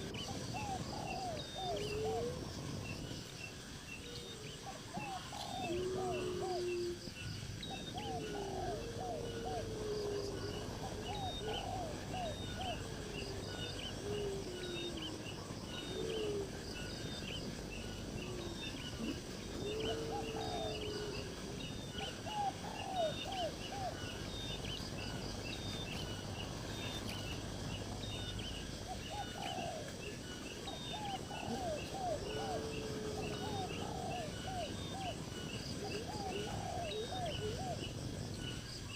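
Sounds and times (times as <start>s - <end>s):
birds calling: 0.0s - 38.9s.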